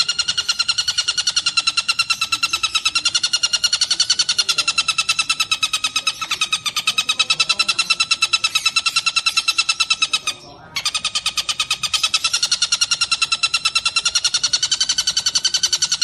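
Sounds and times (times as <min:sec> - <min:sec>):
kingfisher harsh chatter: 0:00.0 - 0:16.0.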